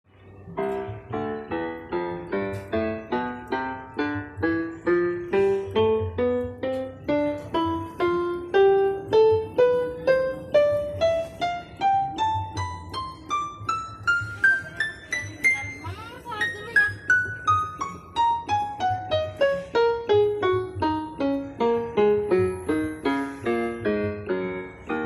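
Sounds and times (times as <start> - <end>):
keyboard playing piano notes: 0.1 - 25.0.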